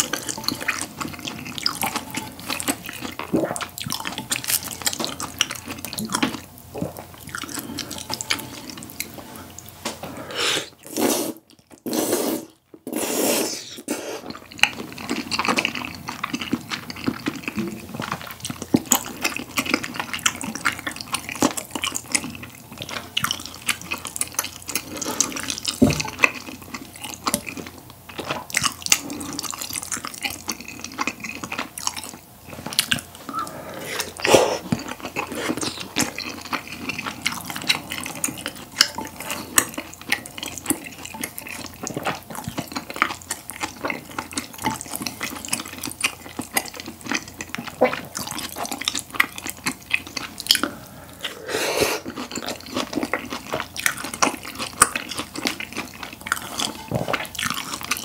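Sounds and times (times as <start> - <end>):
wet chewing and mouth smacking: 0.0 - 9.7, 14.2 - 58.0.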